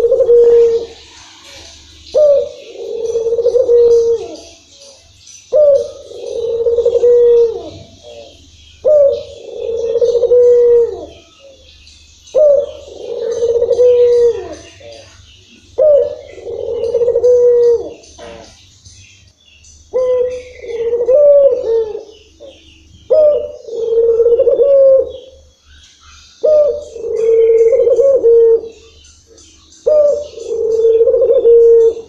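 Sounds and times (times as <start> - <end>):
dove cooing: 0.0 - 18.8, 19.9 - 32.0.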